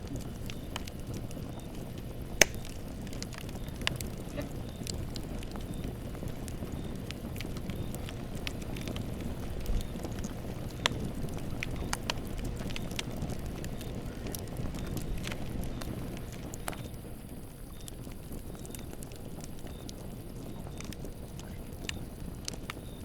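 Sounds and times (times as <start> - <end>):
flames rumbling: 0.0 - 23.0
wood crackling and popping: 0.0 - 23.0.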